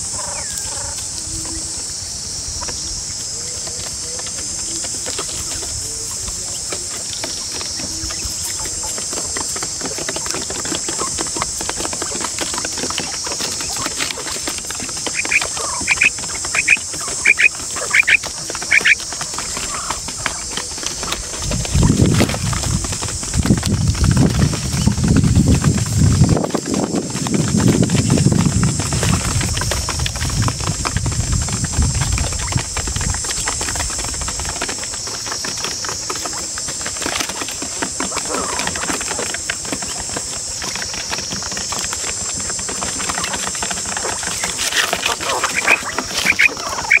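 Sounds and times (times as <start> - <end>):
quail clicking and scratching: 0.0 - 47.0.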